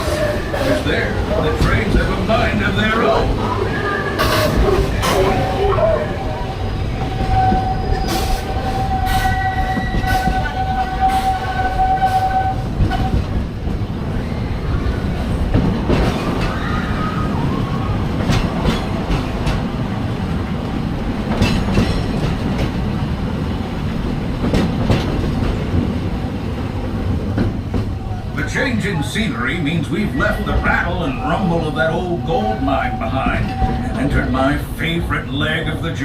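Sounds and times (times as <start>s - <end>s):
steam train rumbling on track: 0.0s - 36.0s.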